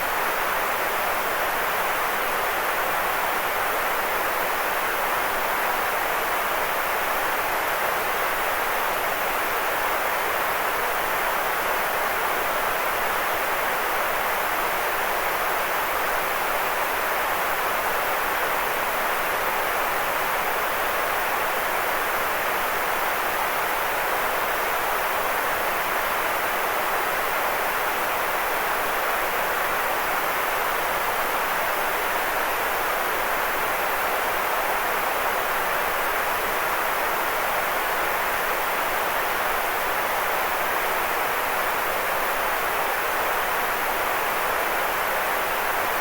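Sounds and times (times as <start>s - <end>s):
steady white noise hiss: 0.0s - 46.0s.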